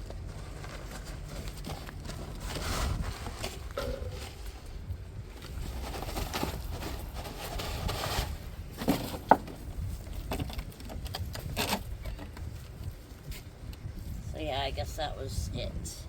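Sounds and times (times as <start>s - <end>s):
hands rummaging through soil: 0.0s - 13.9s.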